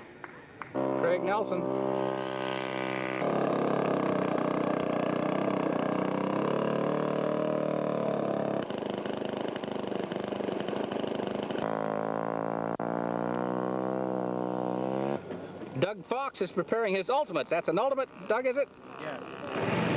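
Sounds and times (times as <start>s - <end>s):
model airplane engine buzzing: 0.6s - 15.8s, 17.5s - 19.9s.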